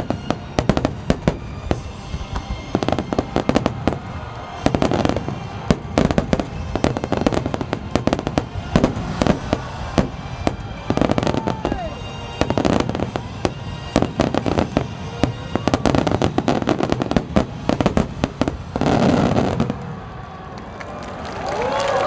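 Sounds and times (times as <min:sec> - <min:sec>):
fireworks bursting: 0:00.0 - 0:20.3
music playing: 0:00.0 - 0:21.2.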